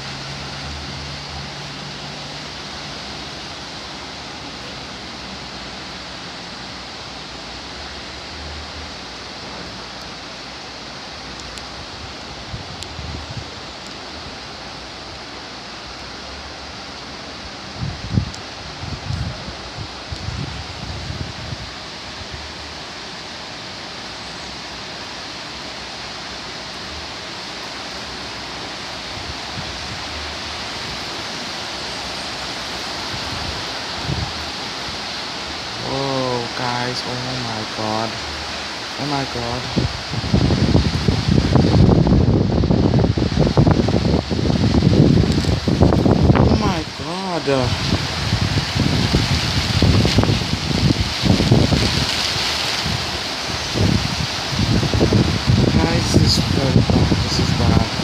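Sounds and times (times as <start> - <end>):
downpour hissing: 0.0 - 58.0
strong wind: 0.0 - 58.0
torrential rain: 0.0 - 58.0.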